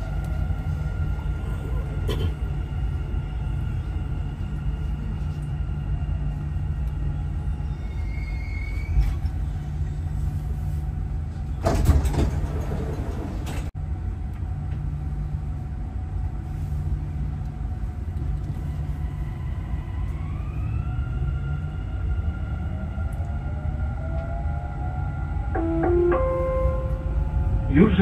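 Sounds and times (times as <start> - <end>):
train rumble inside carriage: 0.0 - 28.0.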